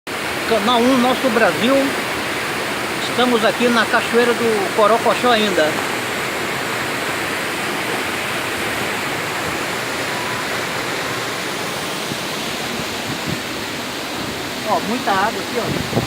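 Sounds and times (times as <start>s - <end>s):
waterfall rushing: 0.1s - 16.0s.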